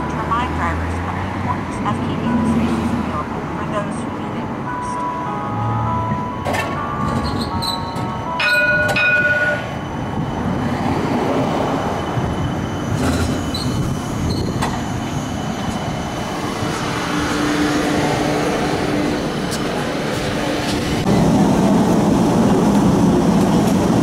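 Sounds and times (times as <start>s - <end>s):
streetcar rolling on rails: 0.0s - 24.0s.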